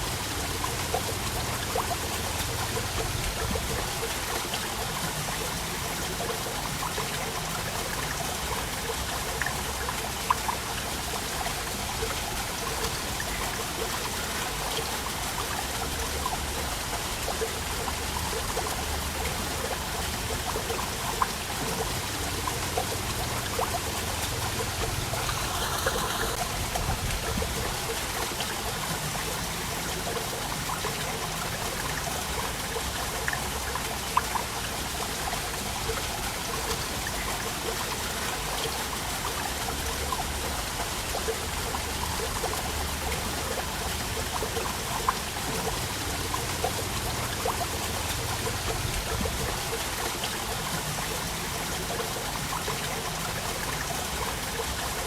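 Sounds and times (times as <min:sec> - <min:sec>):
small water splashes: 0:00.0 - 0:55.0
waterfall rushing: 0:00.0 - 0:55.0.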